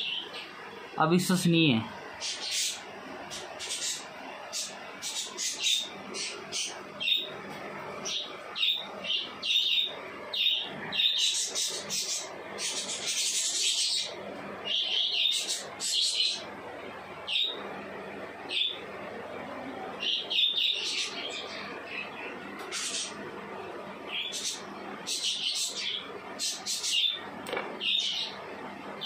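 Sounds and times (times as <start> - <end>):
small birds chirping: 0.0 - 0.6, 1.2 - 16.6, 17.2 - 18.9, 19.9 - 23.2, 24.0 - 29.0.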